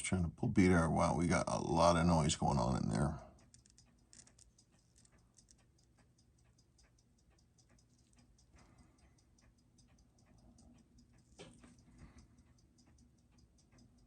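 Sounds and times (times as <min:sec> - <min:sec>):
watch ticking: 0:00.2 - 0:14.0.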